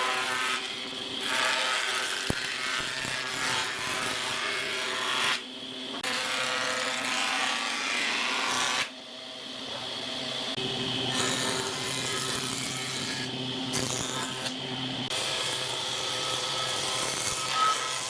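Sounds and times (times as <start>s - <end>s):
power tool cutting wood: 0.0s - 8.9s, 10.5s - 18.0s.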